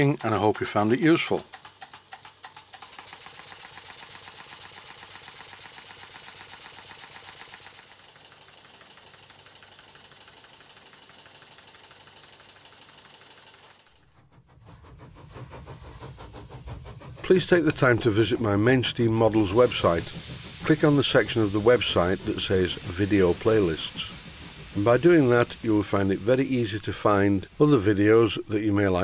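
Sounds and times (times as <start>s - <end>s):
steam engine rapid exhaust beat: 0.0s - 29.0s.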